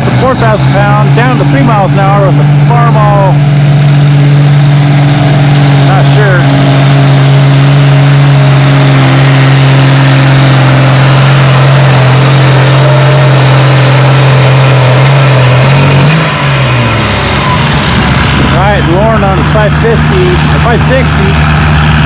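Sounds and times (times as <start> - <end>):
tractor engine running hard: 0.0 - 22.0.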